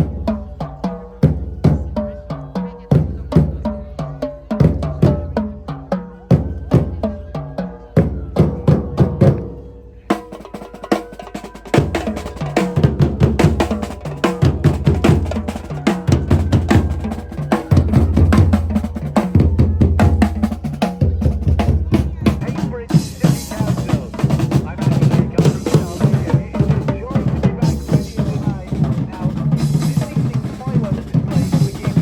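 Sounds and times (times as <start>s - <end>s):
fast drum rhythm: 0.0s - 32.0s.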